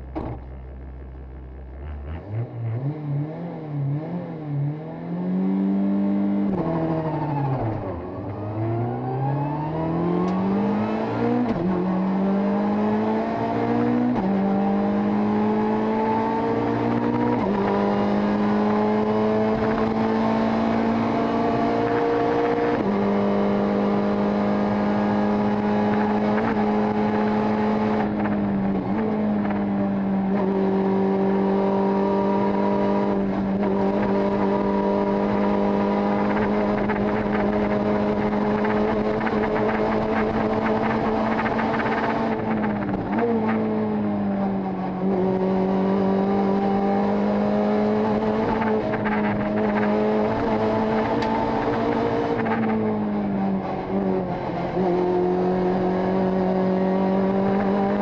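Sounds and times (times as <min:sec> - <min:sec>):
rally car engine accelerating: 0:00.0 - 0:58.0.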